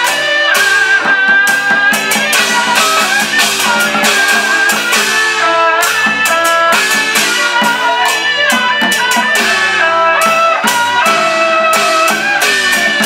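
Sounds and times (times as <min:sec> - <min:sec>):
held melody line: 0:00.0 - 0:13.0
small drums beaten quickly: 0:00.0 - 0:13.0.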